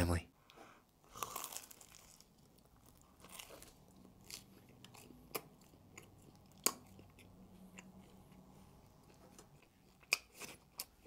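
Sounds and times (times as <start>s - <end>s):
chewing pizza: 1.1s - 11.0s.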